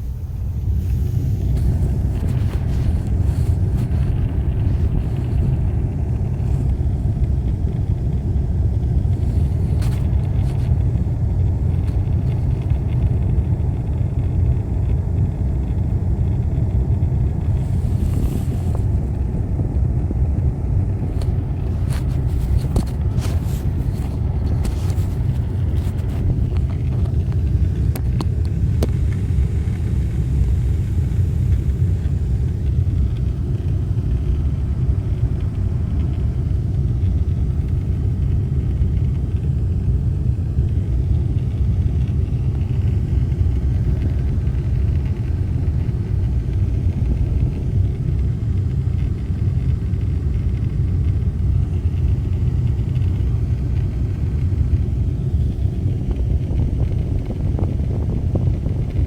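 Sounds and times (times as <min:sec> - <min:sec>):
heater blower fan rushing air: 0:00.0 - 0:59.0.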